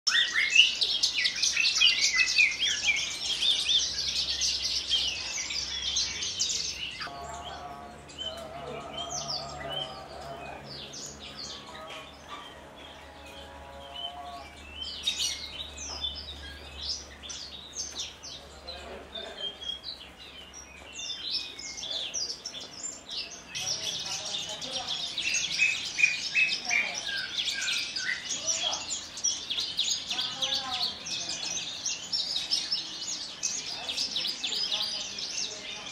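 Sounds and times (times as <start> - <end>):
bird singing high-pitched song: 0.1 - 18.7, 19.3 - 35.9.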